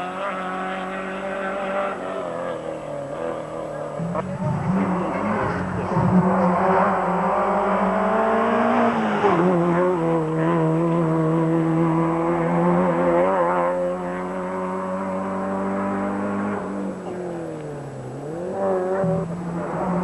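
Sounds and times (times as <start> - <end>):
rally car engine passing: 0.0 - 20.0.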